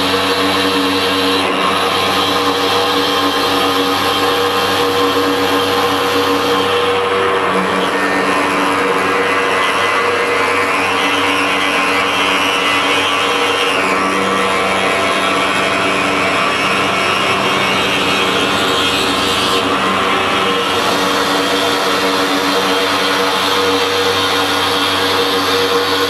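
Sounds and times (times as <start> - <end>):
stone-cutting router grinding: 0.0 - 26.0.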